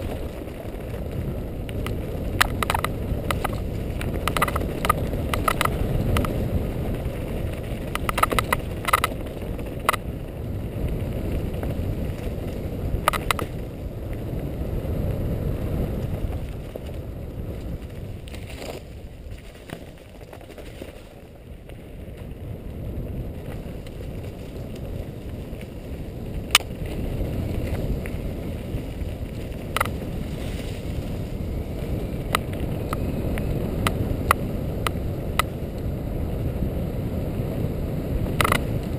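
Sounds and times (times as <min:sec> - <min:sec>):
bike clicks and rattles: 0:00.0 - 0:38.9
tyres rumbling on dirt trail: 0:00.0 - 0:38.9
wind on microphone: 0:00.0 - 0:38.9.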